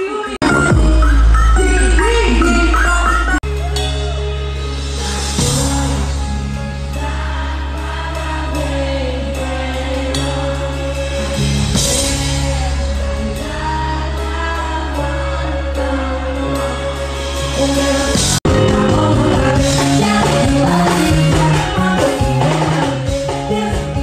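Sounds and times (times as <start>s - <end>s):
heavy bass: 0.4s - 24.0s.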